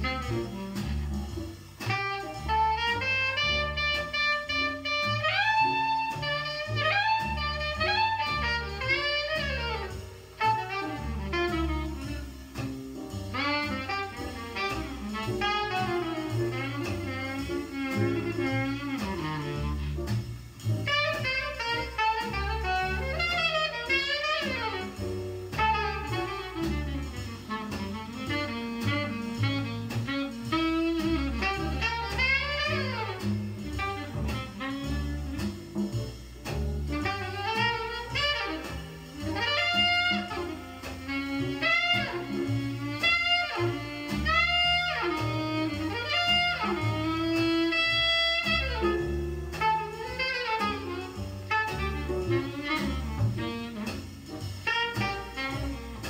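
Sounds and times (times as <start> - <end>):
bass and drums: 0.0 - 56.0
jazz horn solo: 0.0 - 56.0.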